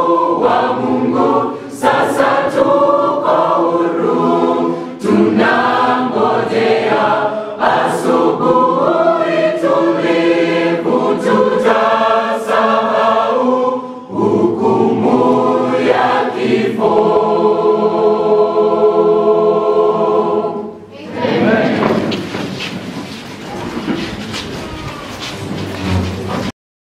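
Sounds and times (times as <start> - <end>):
choir singing gospel song: 0.0 - 22.6.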